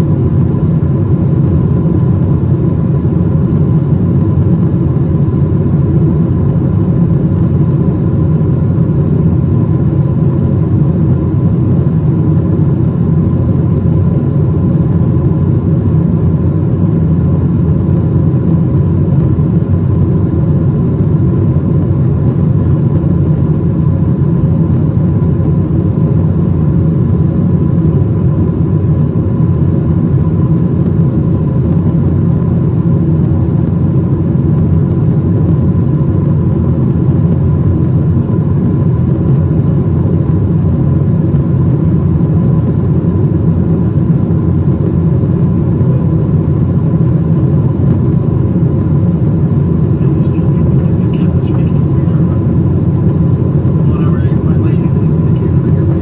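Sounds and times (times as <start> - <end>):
faint steady whine: 0.0 - 56.0
jet engine cabin rumble: 0.0 - 56.0.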